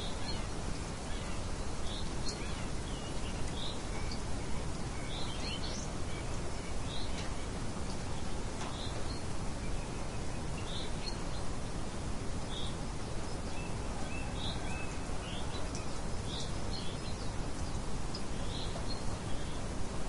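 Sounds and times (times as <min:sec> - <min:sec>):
small birds chirping: 0:00.0 - 0:19.8
steady rain: 0:00.0 - 0:20.0.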